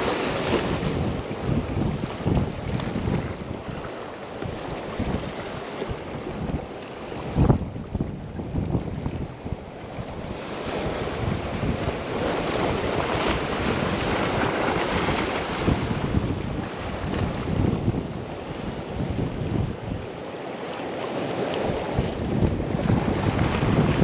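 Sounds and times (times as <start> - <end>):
wind buffeting microphone: 0.0 - 20.3, 21.2 - 24.0
ocean surf on rocks: 0.0 - 24.0.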